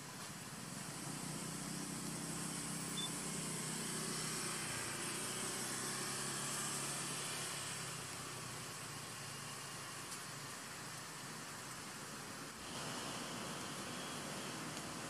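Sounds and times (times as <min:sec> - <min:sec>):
high hiss: 0:00.0 - 0:15.0.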